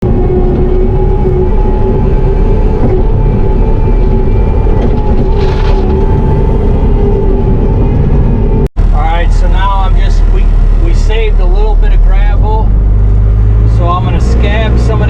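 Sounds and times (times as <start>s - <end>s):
loader engine rumble with whine: 0.0s - 15.0s.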